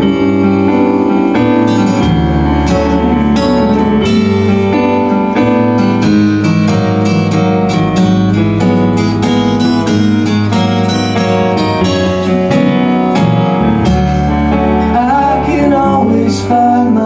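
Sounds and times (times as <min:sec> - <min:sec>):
bass: 0:00.0 - 0:17.0
electric piano chords: 0:00.0 - 0:17.0
guitar strumming: 0:00.0 - 0:17.0.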